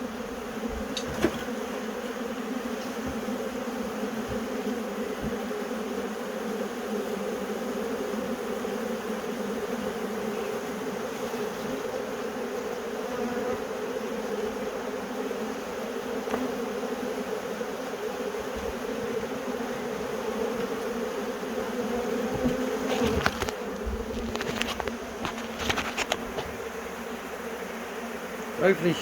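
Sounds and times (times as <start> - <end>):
swarm of bees buzzing: 0.0 - 29.0.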